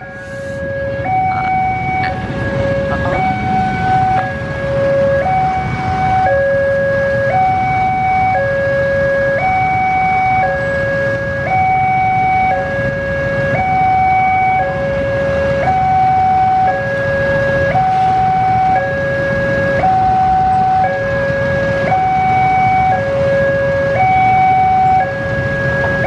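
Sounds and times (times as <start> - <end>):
two-tone level-crossing alarm: 0.0 - 26.0.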